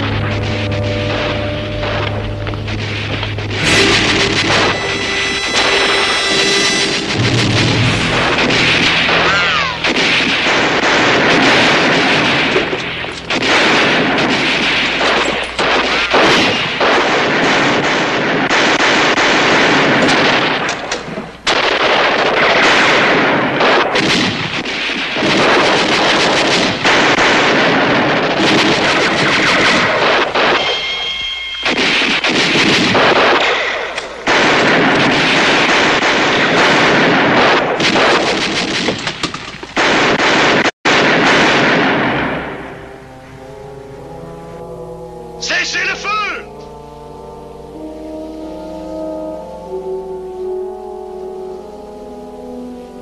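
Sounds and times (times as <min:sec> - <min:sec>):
heavy gunfire: 0:00.0 - 0:43.0.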